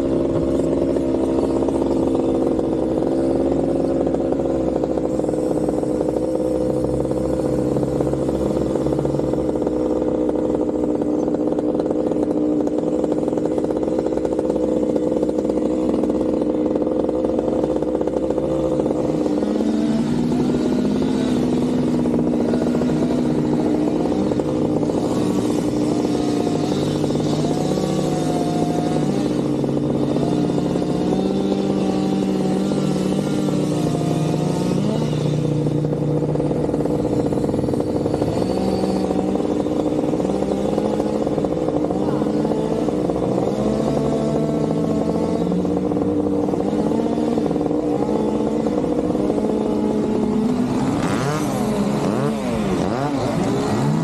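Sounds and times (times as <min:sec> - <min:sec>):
engine droning: 0:00.0 - 0:54.0
shifting tones: 0:00.0 - 0:54.0.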